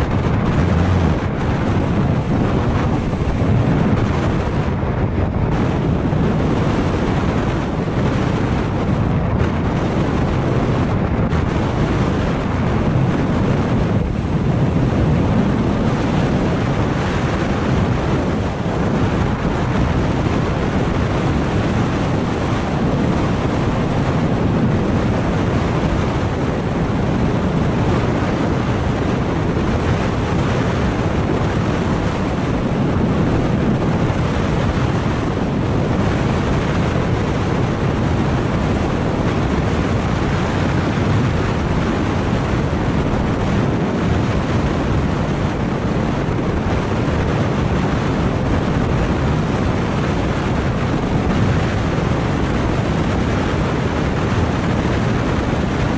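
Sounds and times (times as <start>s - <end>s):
road and riding noise: 0.0s - 55.9s
wind rushing over microphone: 0.0s - 55.9s.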